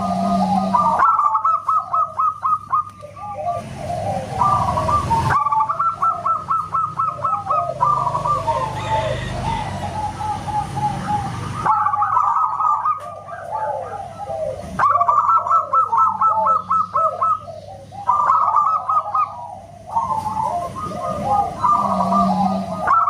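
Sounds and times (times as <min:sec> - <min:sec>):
doves cooing: 0:00.0 - 0:23.0.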